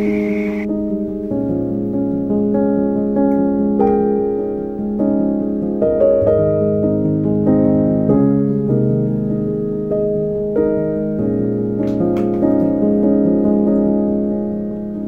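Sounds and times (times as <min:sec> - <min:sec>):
soft keyboard music: 0:00.0 - 0:15.0.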